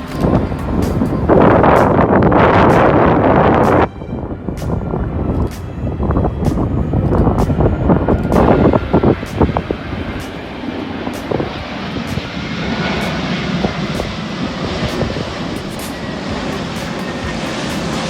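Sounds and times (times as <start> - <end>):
airplane engine in flight: 0.0 - 18.0.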